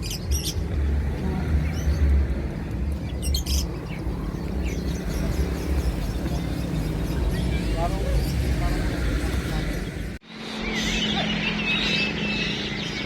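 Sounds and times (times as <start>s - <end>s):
songbirds singing: 0.0s - 13.0s
steady low rumble: 0.2s - 10.7s.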